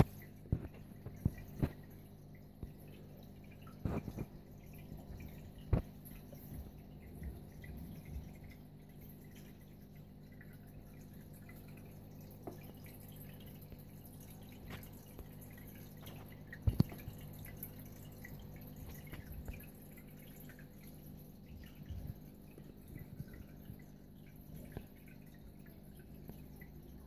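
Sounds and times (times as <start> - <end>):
tank filter hum: 0.0 - 27.0
water dripping and trickling: 0.0 - 27.0.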